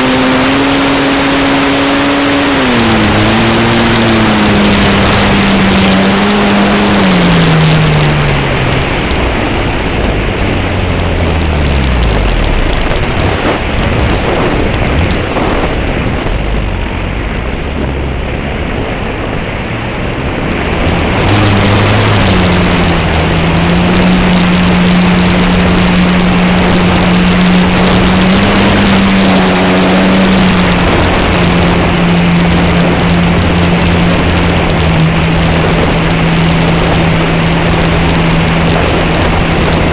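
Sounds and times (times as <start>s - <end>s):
loud wind rush: 0.0s - 39.9s.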